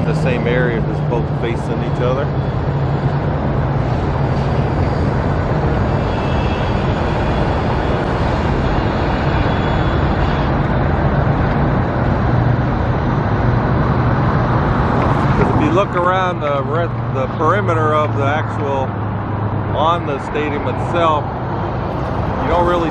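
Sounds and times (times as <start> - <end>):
vehicle engines rumbling: 0.0 - 22.9.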